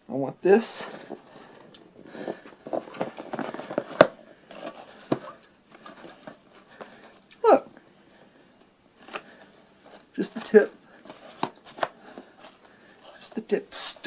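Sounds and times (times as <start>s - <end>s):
rustling with clicks and taps: 0.8s - 7.4s, 8.6s - 13.5s.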